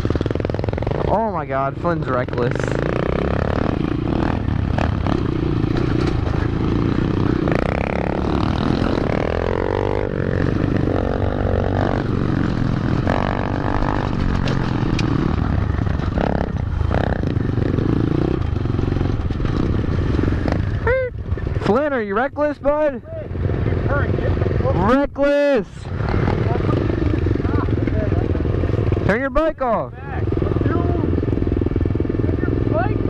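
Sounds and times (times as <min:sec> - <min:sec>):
pit bike engines revving: 0:00.0 - 0:33.0.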